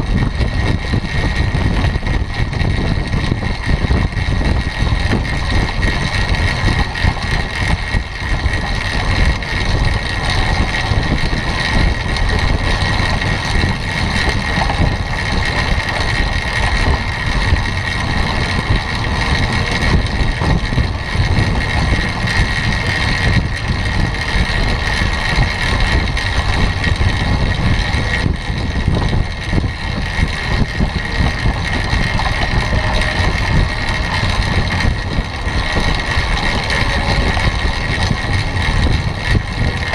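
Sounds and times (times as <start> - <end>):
steady high hum: 0.0 - 39.9
tyres rolling on wooden boards: 0.0 - 39.9
wind over microphone: 0.0 - 39.9.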